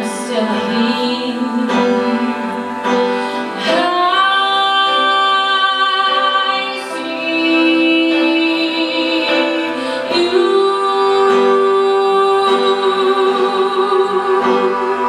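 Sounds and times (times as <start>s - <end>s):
bowed cello: 0.0s - 15.0s.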